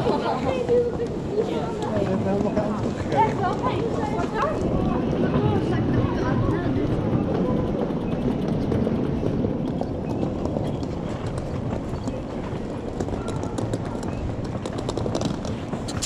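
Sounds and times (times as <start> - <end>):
crowd chatter: 0.0 - 16.0
footsteps on cobblestones: 0.0 - 16.0.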